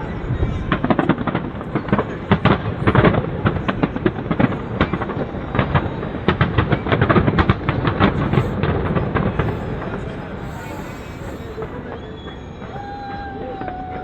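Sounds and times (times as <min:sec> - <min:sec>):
fireworks bangs and crackles: 0:00.0 - 0:14.0
fireworks rumble: 0:00.0 - 0:14.0.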